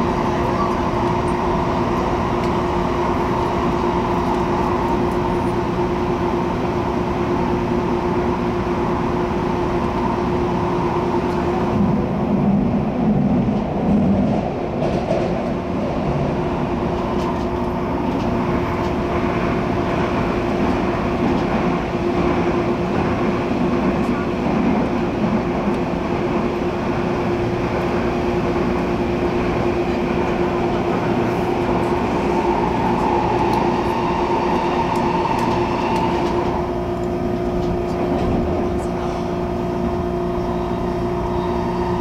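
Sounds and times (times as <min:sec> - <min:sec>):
train cabin rumble: 0:00.0 - 0:42.0.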